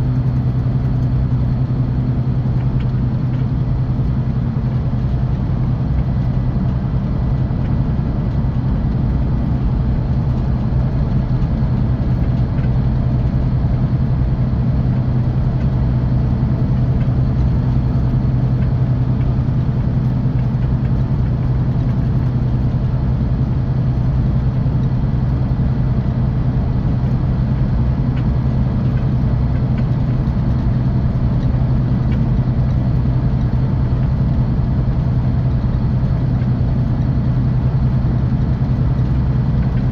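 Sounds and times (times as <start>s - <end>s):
constant rush of noise: 0.0s - 39.9s
diesel engine droning: 0.0s - 39.9s.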